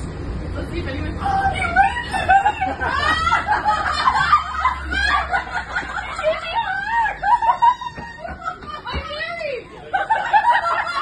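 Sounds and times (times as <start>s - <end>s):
people laughing and squealing: 1.2s - 11.0s.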